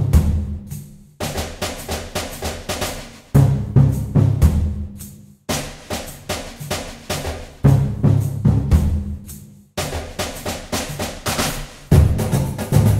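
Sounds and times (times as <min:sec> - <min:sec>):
drum-driven music with bass line: 0:00.0 - 0:12.9.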